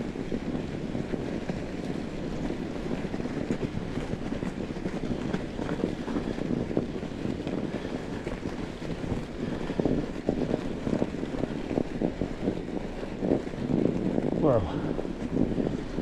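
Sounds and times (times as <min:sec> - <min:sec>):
wind buffeting microphone: 0:00.0 - 0:16.0
tyres crunching over snow: 0:00.1 - 0:16.0.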